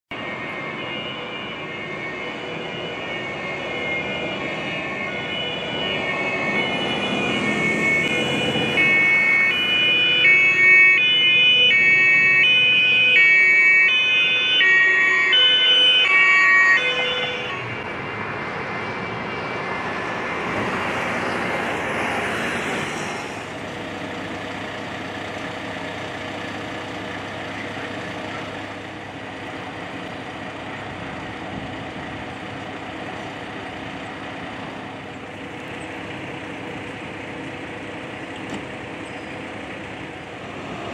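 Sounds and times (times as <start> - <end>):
heavy vehicle engine: 0.1 - 40.9
steady engine hum: 0.1 - 40.9
two-tone sirens: 0.1 - 40.9.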